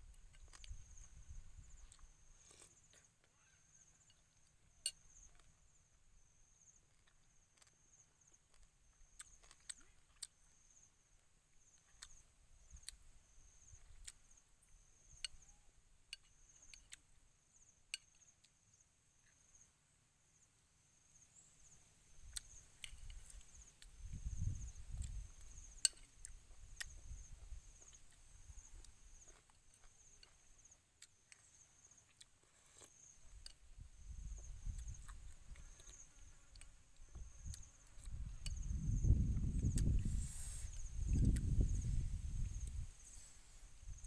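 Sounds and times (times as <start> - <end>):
soft chewing: 0.0 - 19.6, 22.1 - 44.0
insects chirring: 0.0 - 44.0.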